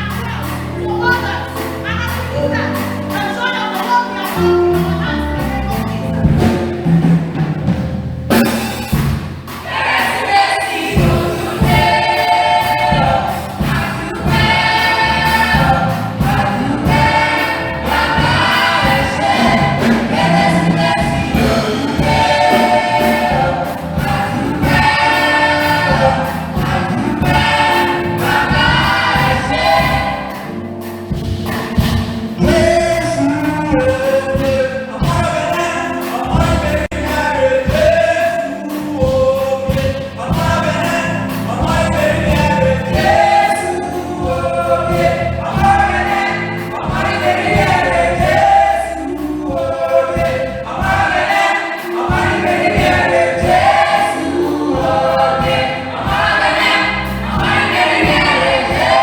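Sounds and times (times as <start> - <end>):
choir singing gospel carol: 0.0 - 59.0
drums: 0.0 - 59.0.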